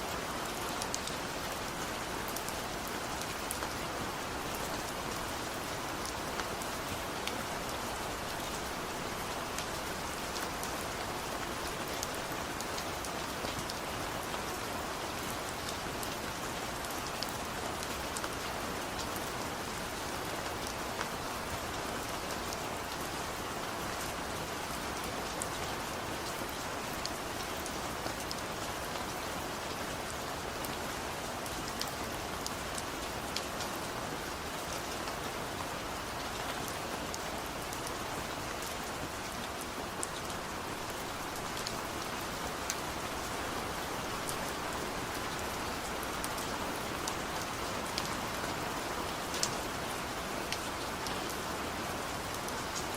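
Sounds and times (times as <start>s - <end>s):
steady rainfall pattering: 0.0s - 52.9s.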